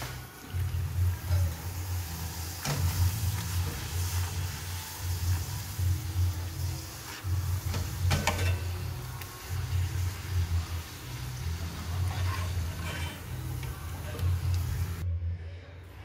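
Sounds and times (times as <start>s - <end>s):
oil sizzling: 0.0s - 15.0s.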